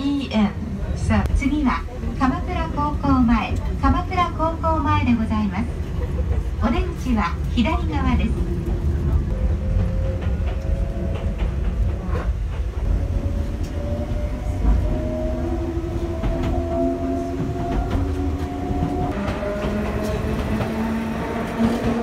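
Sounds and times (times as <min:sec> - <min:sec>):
train rumbling on rails: 0:00.0 - 0:22.0
train passing close by: 0:00.6 - 0:22.0.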